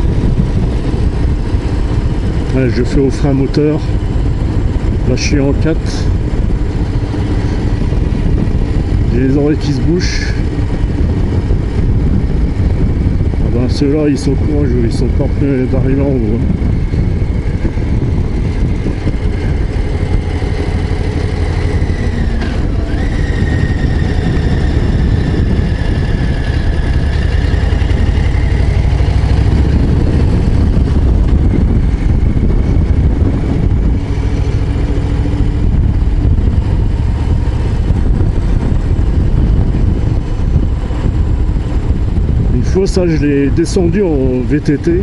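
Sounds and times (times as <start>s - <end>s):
motorcycle exhaust rumble: 0.0s - 45.0s.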